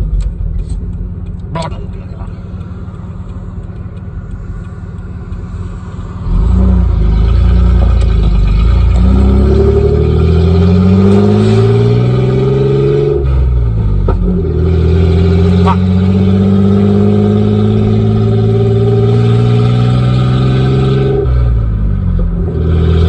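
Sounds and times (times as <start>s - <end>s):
truck engine revving: 1.6s - 21.8s.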